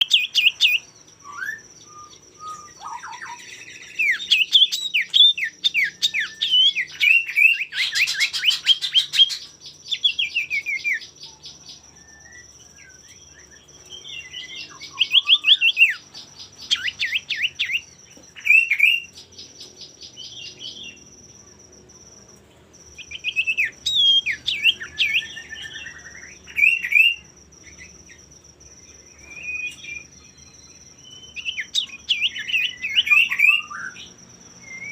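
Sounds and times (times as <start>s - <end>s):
bird singing chirps: 0.0s - 34.9s.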